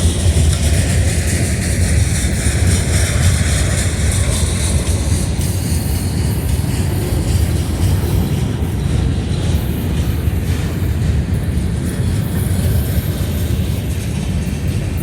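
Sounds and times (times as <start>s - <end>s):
freight train rolling on rails: 0.0s - 15.0s.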